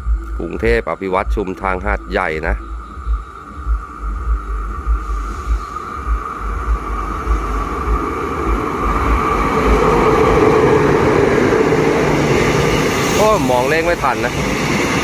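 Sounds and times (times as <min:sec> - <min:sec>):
diesel train running through: 0:00.0 - 0:15.0
wind buffeting microphone: 0:00.0 - 0:15.0.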